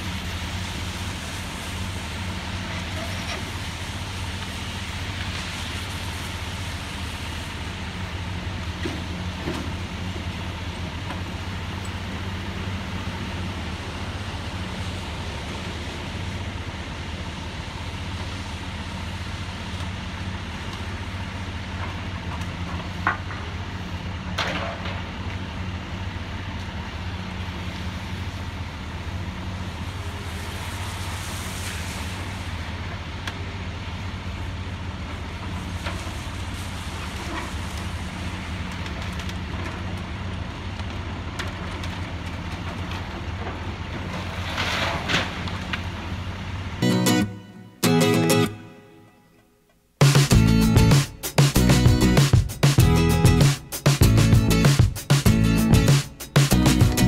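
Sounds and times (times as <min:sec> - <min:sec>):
distant excavator diesel engine: 0:00.0 - 0:49.2, 0:49.8 - 0:57.0.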